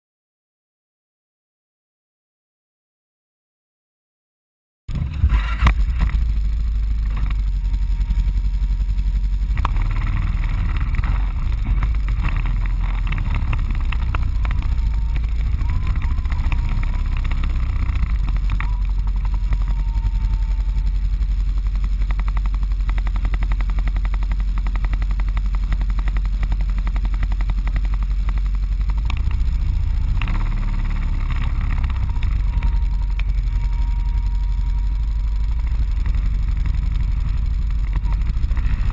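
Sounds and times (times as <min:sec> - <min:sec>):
atv engine low rumble: 0:04.9 - 0:38.9.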